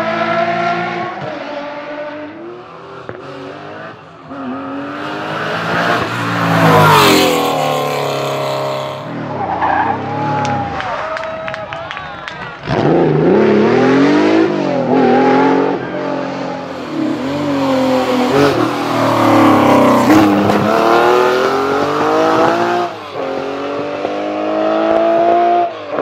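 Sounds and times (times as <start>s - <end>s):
rally car engines accelerating: 0.0s - 10.9s, 12.4s - 26.0s.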